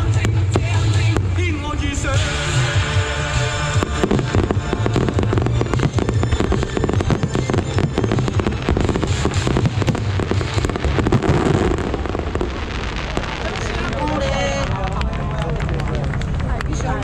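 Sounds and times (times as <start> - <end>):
firecrackers cracking and banging: 0.0 - 17.0.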